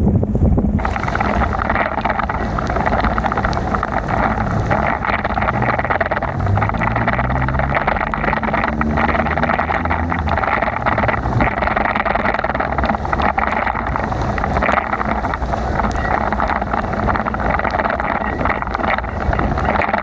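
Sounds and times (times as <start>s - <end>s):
wind on microphone: 0.0s - 20.0s
tyres hissing on wet pavement: 0.8s - 20.0s.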